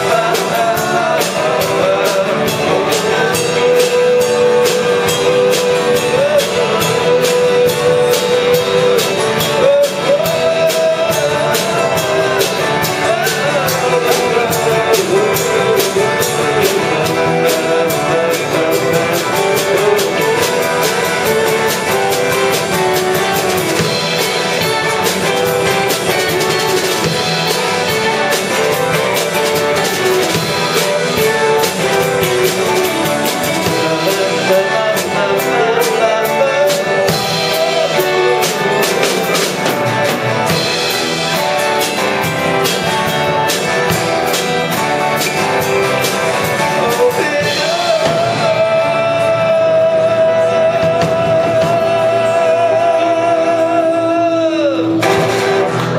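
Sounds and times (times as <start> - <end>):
live band playing: 0.0 - 55.9
wavering lead melody: 0.0 - 55.9.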